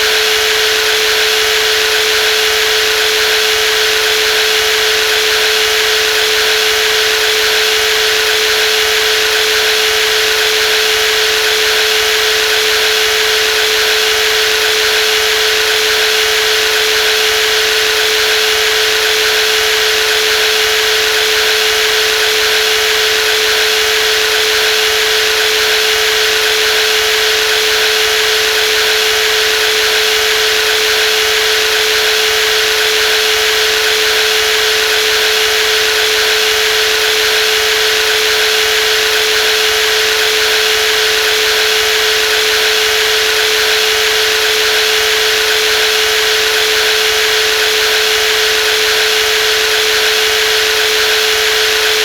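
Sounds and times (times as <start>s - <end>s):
jigsaw motor humming: 0.0s - 52.0s.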